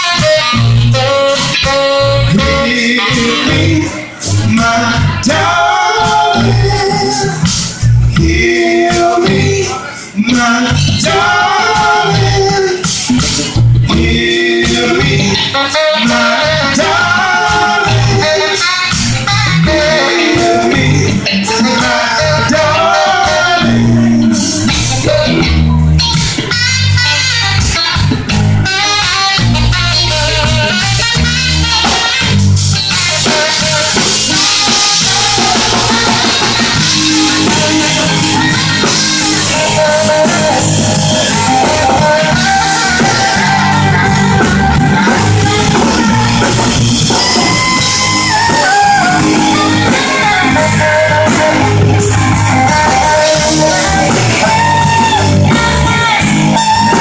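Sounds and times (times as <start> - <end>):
live band music: 0.0 - 57.0.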